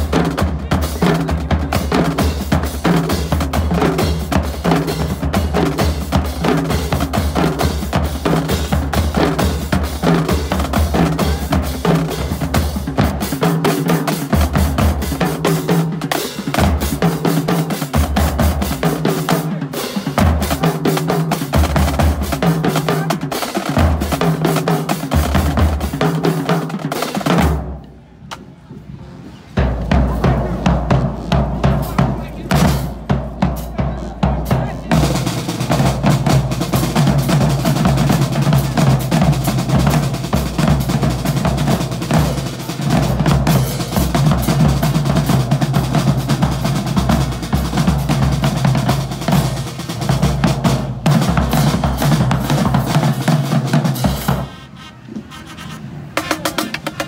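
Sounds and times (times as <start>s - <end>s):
snare drums: 0.0s - 28.4s, 29.6s - 57.0s.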